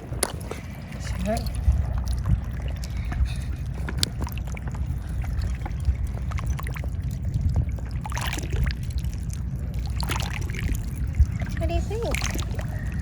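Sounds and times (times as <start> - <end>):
small splashes and clicks: 0.0 - 13.0
steady low rumble: 0.0 - 13.0
water lapping among rocks: 0.0 - 13.0.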